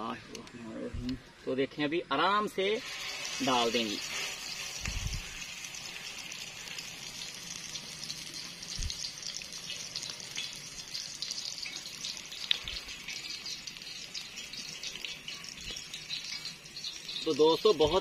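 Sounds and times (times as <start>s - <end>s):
meat sizzling in hot oil: 2.7s - 18.0s.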